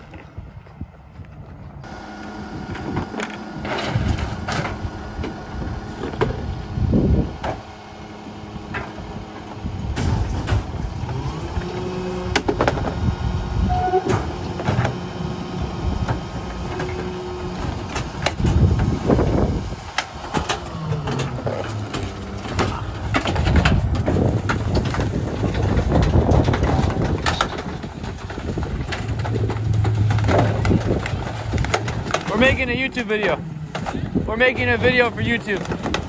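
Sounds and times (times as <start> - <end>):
diesel engine running: 0.0 - 36.0
items clanking into hopper: 2.7 - 6.6, 8.6 - 13.0, 13.7 - 15.4, 16.0 - 36.0.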